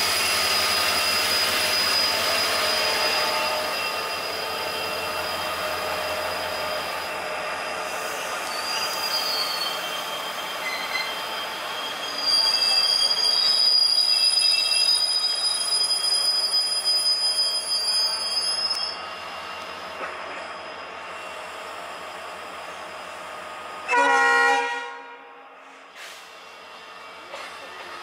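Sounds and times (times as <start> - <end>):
train wheels squealing on rails: 0.0 - 24.2, 25.5 - 28.0.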